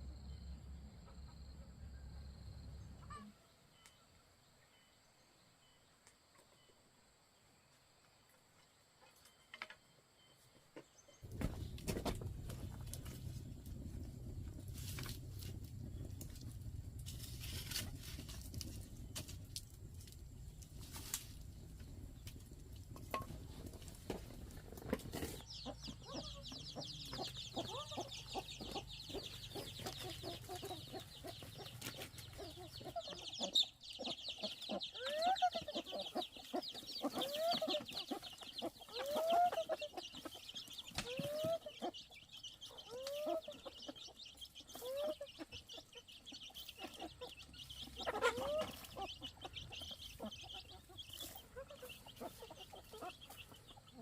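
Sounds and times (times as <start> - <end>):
chickens calling: 2.8 - 3.5, 11.0 - 54.0.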